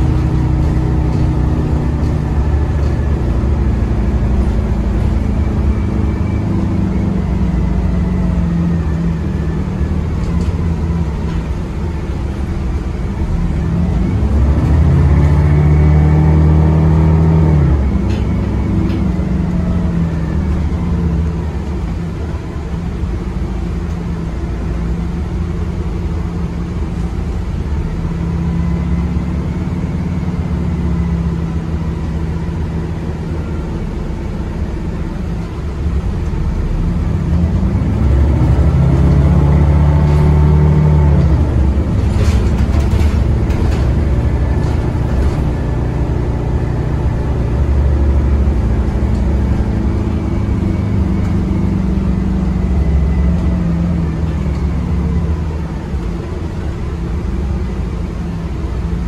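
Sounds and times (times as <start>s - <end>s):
bus engine accelerating: 0.0s - 59.0s
road noise: 0.0s - 59.0s.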